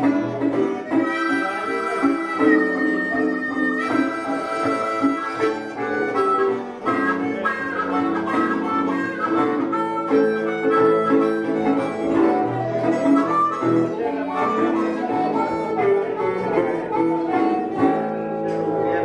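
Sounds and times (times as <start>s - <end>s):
blues harmonica wailing: 0.0s - 19.0s
resonator guitar: 0.0s - 19.0s.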